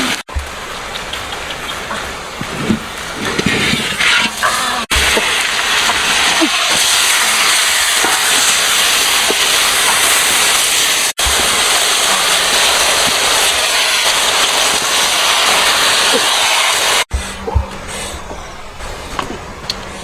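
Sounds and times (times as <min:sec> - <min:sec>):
loud steady hiss: 0:00.0 - 0:20.0.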